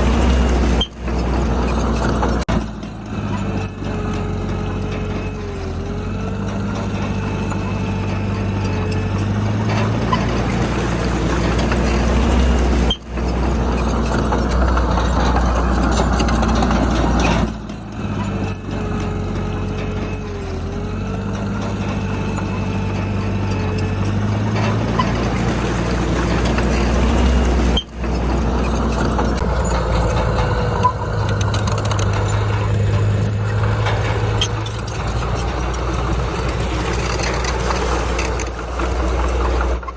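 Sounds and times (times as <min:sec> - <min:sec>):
earthmoving machine diesel engine: 0:00.0 - 0:39.9.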